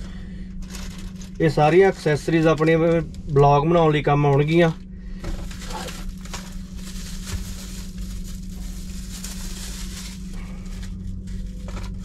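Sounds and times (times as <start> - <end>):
rustling of unpacking accessories: 0.0 - 2.9, 4.4 - 12.0
steady low hum: 0.0 - 12.0.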